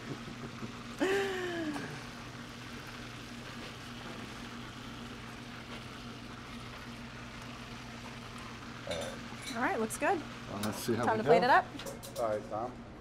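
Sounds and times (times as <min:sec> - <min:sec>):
fish frying in hot oil: 0:00.0 - 0:11.6
constant hum: 0:00.0 - 0:13.0.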